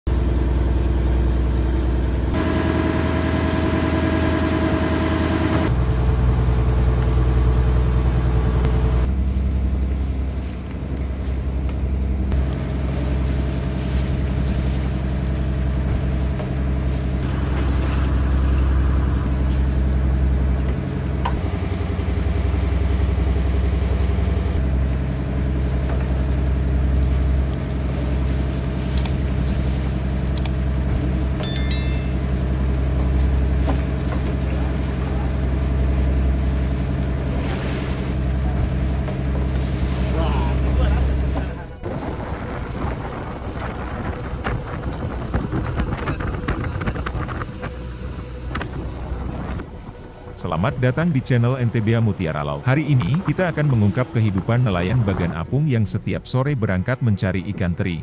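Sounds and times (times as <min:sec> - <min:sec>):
boat engine running: 0:00.1 - 0:58.0.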